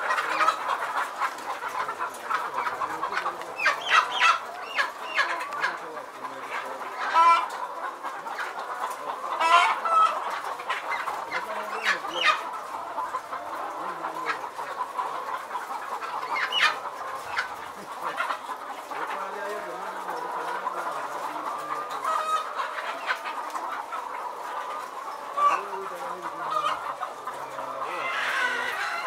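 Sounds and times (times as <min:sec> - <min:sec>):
chickens clucking and squawking: 0:00.0 - 0:29.0.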